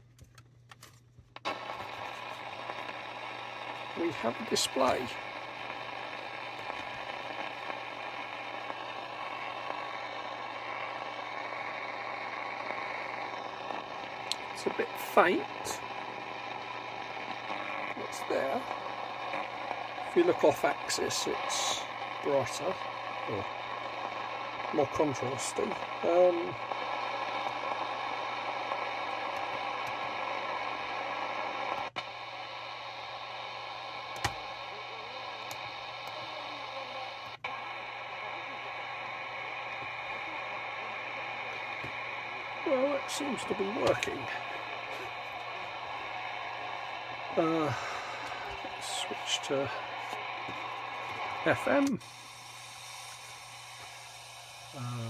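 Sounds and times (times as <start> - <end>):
radio static hiss: 1.4 - 55.0
faint hum: 1.5 - 55.0.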